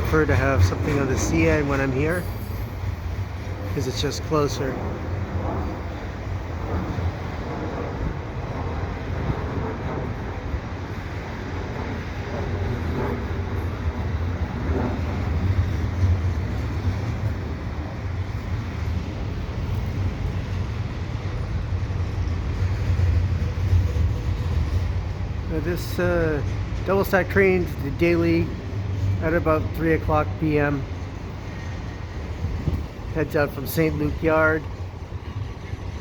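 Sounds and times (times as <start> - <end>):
freight train rumbling past: 0.0 - 36.0
wind buffeting microphone: 0.0 - 36.0.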